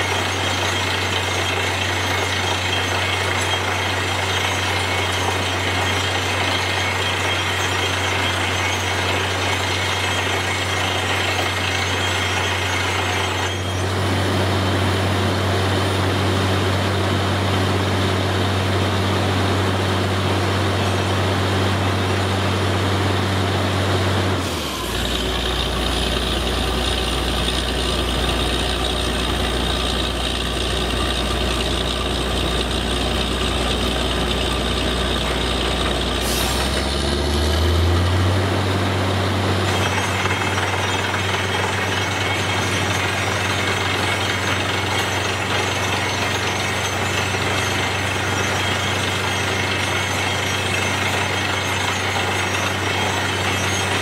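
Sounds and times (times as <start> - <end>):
drilling rig engine droning: 0.0 - 54.0.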